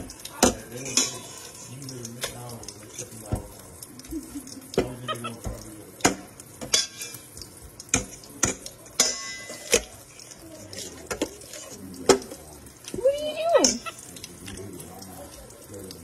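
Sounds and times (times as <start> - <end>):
metal clinking against colander: 0.0 - 14.1.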